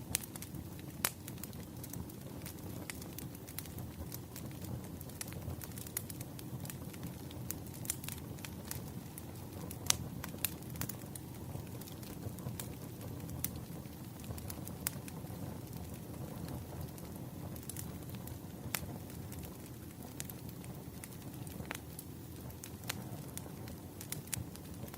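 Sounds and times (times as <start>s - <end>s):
fire crackling and popping: 0.0s - 24.9s
fire flames rumbling: 0.0s - 24.9s.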